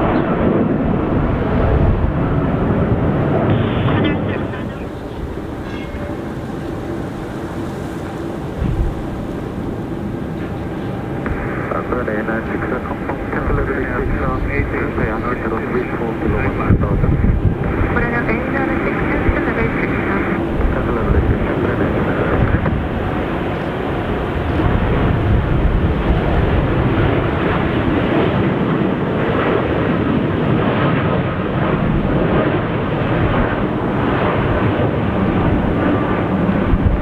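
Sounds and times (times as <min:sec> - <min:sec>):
jet airliner engines: 0:00.0 - 0:37.0.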